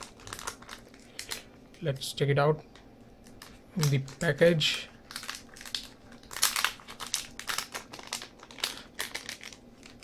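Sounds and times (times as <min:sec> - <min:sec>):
packet wrapping crinkling: 0:00.0 - 0:02.0, 0:02.7 - 0:10.0.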